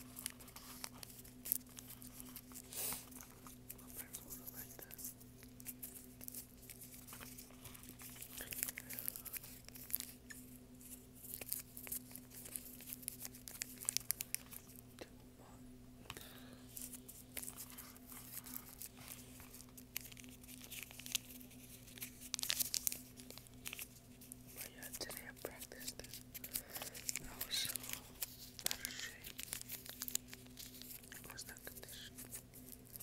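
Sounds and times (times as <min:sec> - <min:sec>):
material crinkling and crackling: 0:00.0 - 0:14.8, 0:16.8 - 0:33.0
steady low hum: 0:00.0 - 0:33.0.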